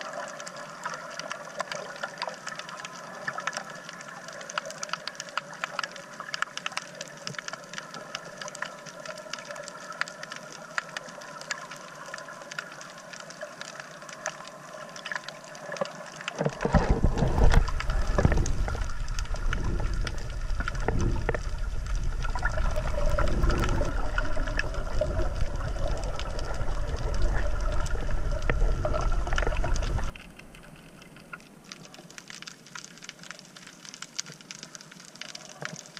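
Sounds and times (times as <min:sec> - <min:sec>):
steady underwater hum: 0:00.0 - 0:35.7
rushing water: 0:00.0 - 0:35.9.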